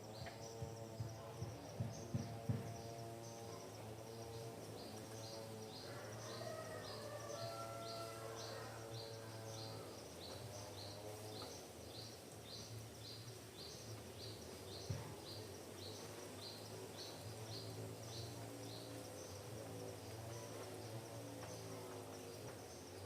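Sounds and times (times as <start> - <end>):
low motor drone: 0.0 - 23.0.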